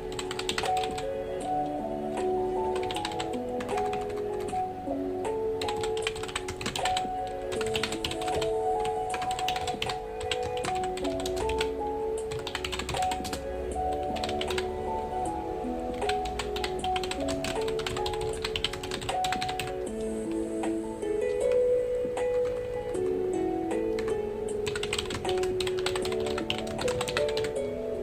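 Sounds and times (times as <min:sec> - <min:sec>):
keyboard typing: 0:00.0 - 0:04.7, 0:05.4 - 0:27.6
soft background music: 0:00.0 - 0:28.0.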